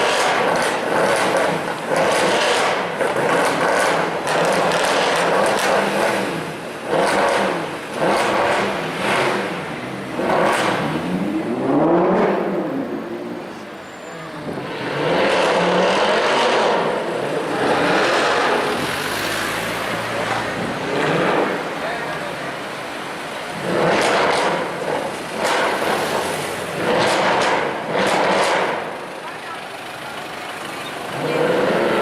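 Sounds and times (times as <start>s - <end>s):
car engine revving: 0.0s - 29.2s, 30.9s - 32.0s.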